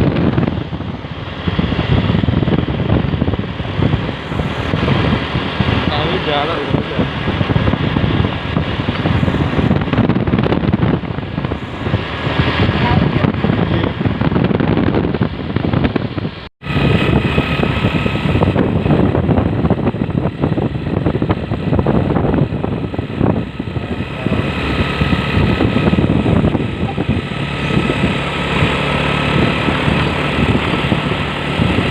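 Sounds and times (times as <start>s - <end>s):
truck engine and road noise: 0.0s - 31.9s.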